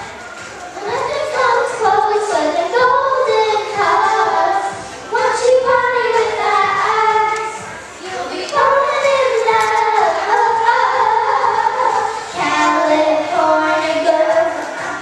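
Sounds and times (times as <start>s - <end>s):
girls singing into microphones: 0.0s - 15.0s.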